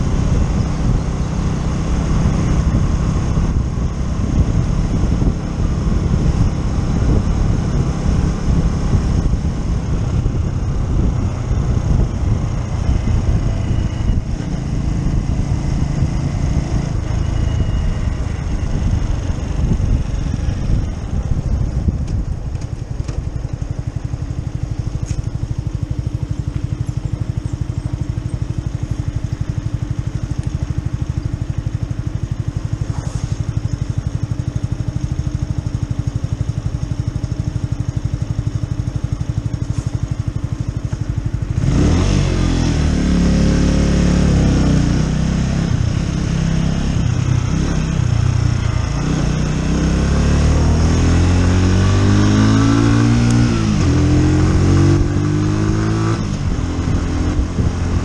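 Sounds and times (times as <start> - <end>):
wind noise: 0.0 - 35.6, 41.2 - 58.0
motorcycle engine revving: 0.0 - 58.0.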